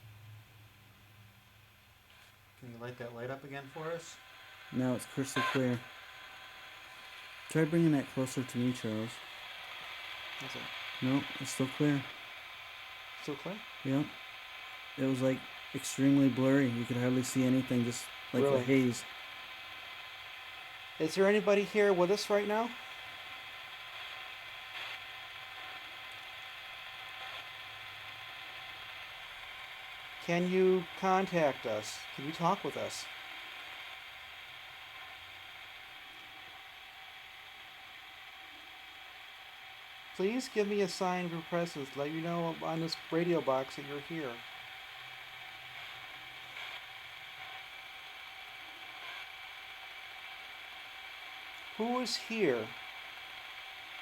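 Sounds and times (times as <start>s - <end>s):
radio static: 2.1s - 54.0s.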